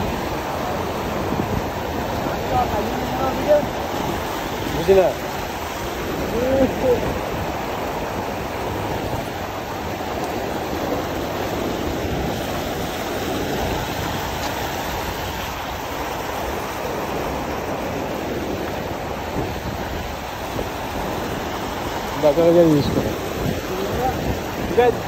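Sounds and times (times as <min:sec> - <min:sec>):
water splashing against rocks: 0:00.0 - 0:25.0.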